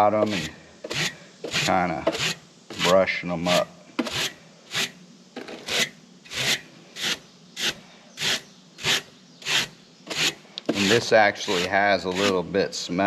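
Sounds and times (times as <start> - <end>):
brush scratching metal fins: 0.0 - 12.6.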